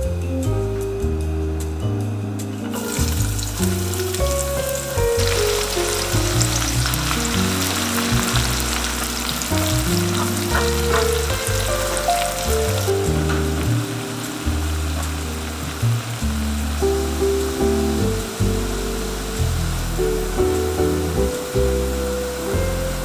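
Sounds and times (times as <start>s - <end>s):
shallots sizzling in hot fat: 2.7s - 23.0s.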